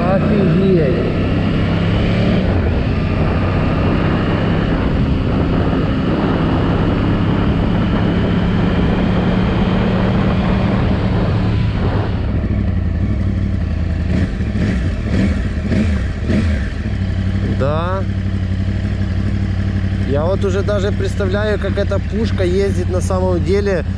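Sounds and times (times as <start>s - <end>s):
motorcycle engine running: 0.0s - 23.9s
wind and road noise: 0.0s - 23.9s.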